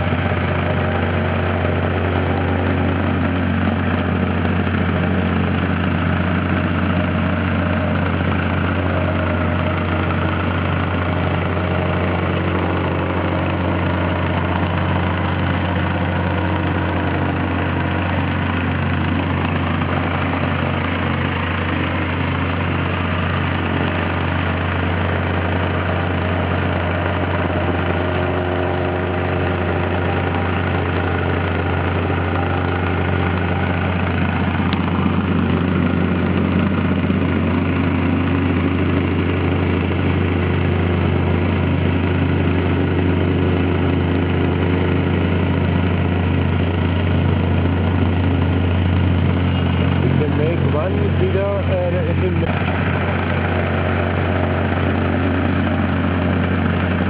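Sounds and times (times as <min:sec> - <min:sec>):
plate compactor engine running: 0:00.0 - 0:57.0.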